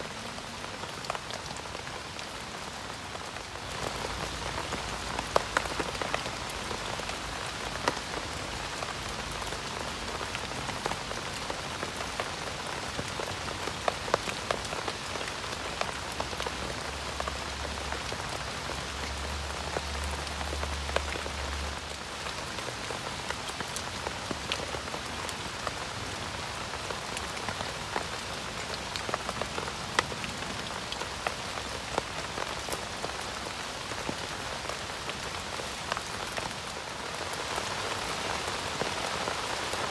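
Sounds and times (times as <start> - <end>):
rain on a shelter: 0.0 - 39.9.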